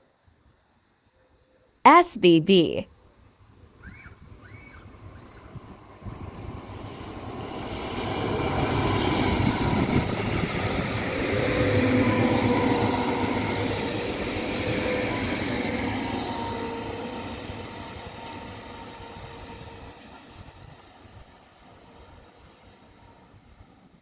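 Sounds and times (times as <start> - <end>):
train rumbling past: 4.4 - 24.0.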